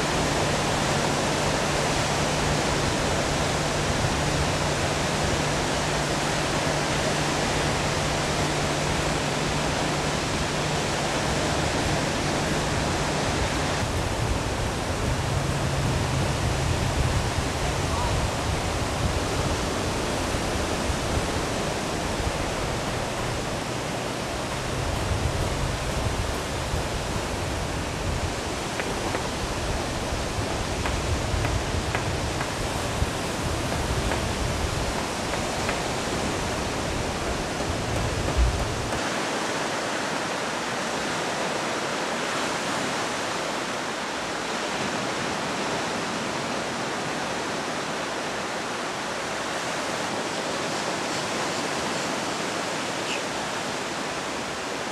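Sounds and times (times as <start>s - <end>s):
ocean surf breaking: 0.0s - 54.9s.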